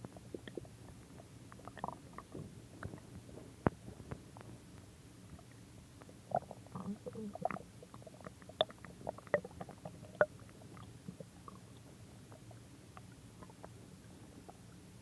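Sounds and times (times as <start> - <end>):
stomach growling: 0.0 - 4.5, 5.4 - 14.7.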